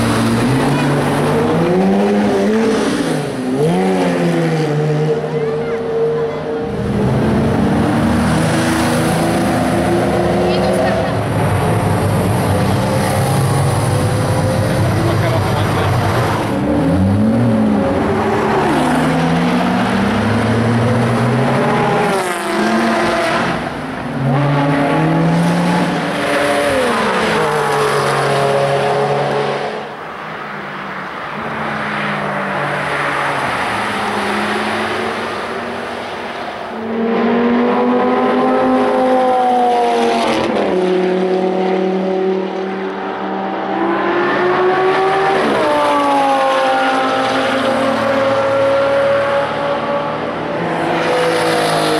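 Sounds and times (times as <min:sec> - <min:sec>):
sports car engines revving past: 0:00.0 - 0:51.9.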